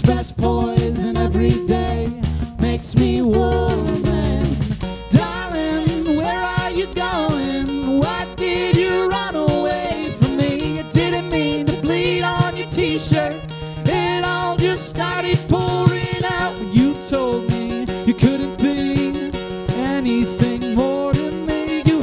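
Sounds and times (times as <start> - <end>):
held low notes: 0.0 - 22.0
person singing: 0.0 - 22.0
plucked guitar: 0.0 - 22.0.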